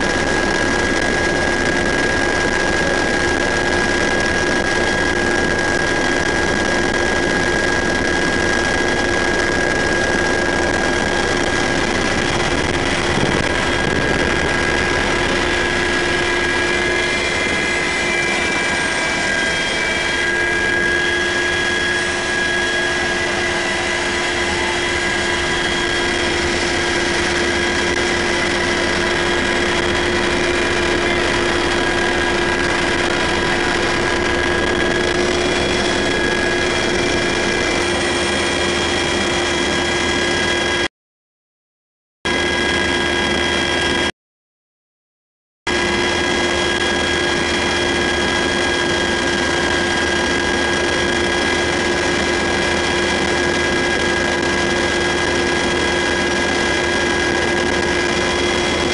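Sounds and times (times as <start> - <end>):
helicopter cabin rushing drone: 0.0 - 40.9, 42.3 - 44.1, 45.7 - 58.9
high steady engine whine: 0.0 - 40.9, 42.3 - 44.1, 45.7 - 58.9.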